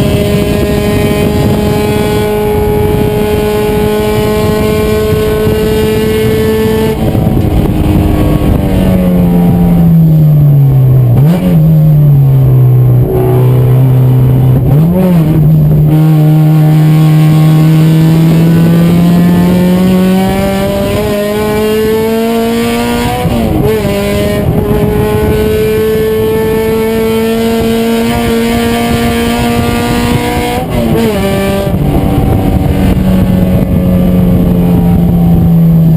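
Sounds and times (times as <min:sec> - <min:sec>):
race car engine revving: 0:00.0 - 0:35.9.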